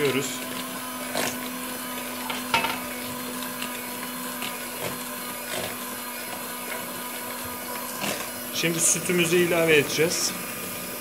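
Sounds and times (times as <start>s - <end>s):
electric hand mixer whisking batter: 0.0s - 11.0s.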